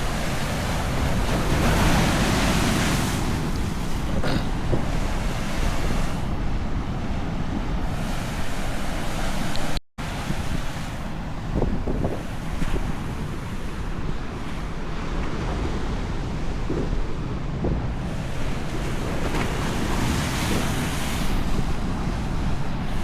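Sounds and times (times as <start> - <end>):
surf breaking and washing ashore: 0.0 - 23.0
wind buffeting microphone: 0.0 - 23.0.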